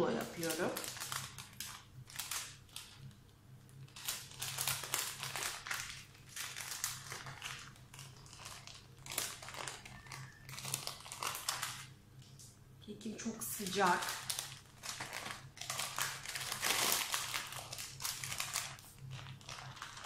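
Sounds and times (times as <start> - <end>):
baking paper rustling and crinkling: 0.0 - 12.0, 13.4 - 20.0.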